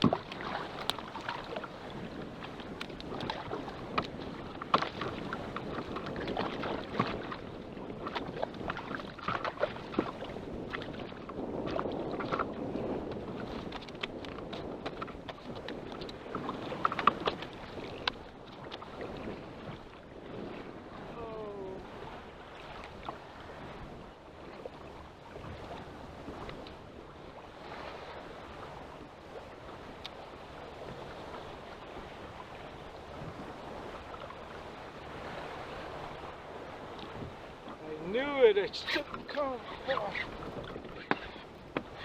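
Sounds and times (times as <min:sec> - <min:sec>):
knocks and clatters on boat: 0:00.0 - 0:21.2, 0:21.9 - 0:42.0
water sloshing against boat: 0:00.0 - 0:42.0
wind on microphone: 0:00.0 - 0:42.0.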